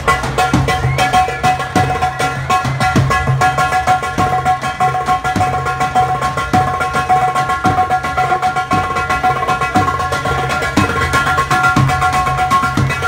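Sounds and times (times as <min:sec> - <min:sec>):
fast hand drumming: 0:00.0 - 0:13.0
held melodic notes: 0:00.0 - 0:13.0
pulsing bass line: 0:00.0 - 0:13.0.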